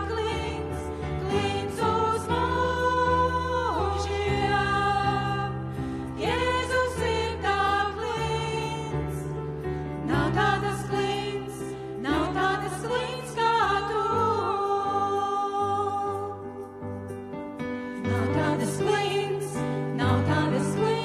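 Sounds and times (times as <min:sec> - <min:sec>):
women singing into microphones: 0:00.0 - 0:16.7, 0:18.0 - 0:21.0.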